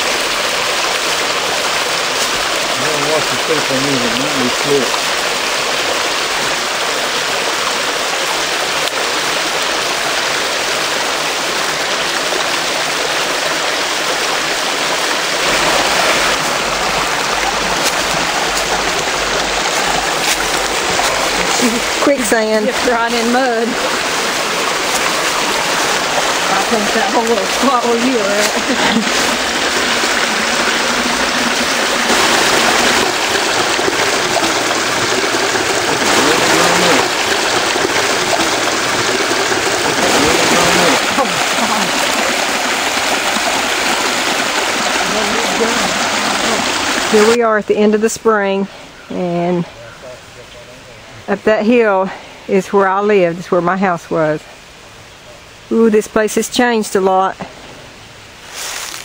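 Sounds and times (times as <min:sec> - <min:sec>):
stream splashing over rocks: 0:00.0 - 0:48.4, 0:56.6 - 0:59.0.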